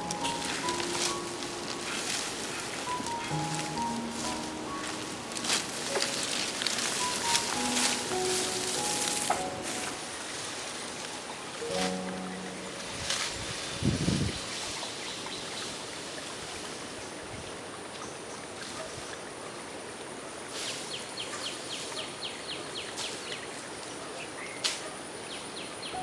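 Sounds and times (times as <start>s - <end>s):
soft hiss: 0.0s - 26.0s.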